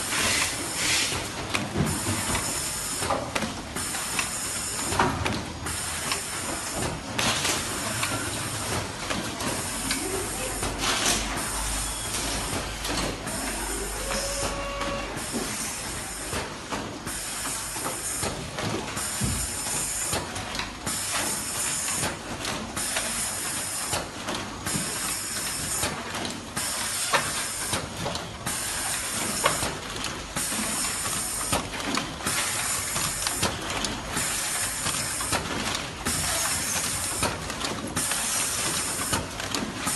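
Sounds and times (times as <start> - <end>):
machine mechanical clatter: 0.0 - 39.9.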